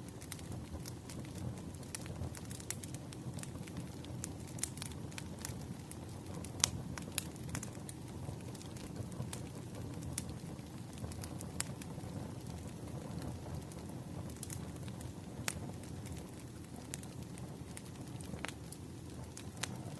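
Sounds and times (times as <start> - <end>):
firewood crackling and popping: 0.0 - 19.9.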